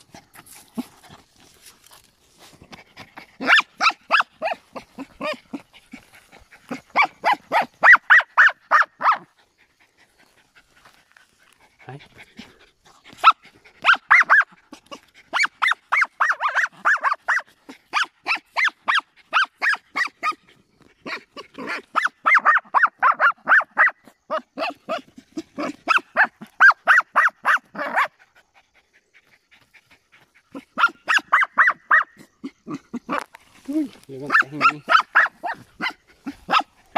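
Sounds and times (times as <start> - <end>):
small dogs barking excitedly: 2.5 - 36.9.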